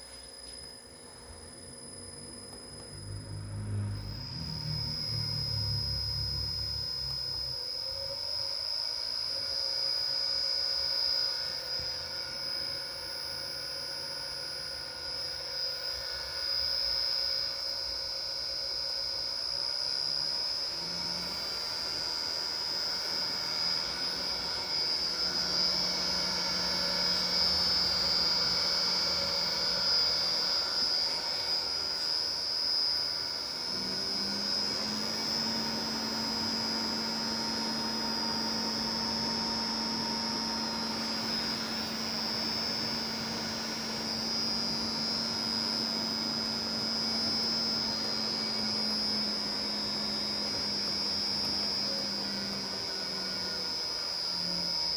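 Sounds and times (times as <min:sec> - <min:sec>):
electric motor hum: 0:00.0 - 0:54.9
high-pitched drive whine: 0:00.0 - 0:54.9.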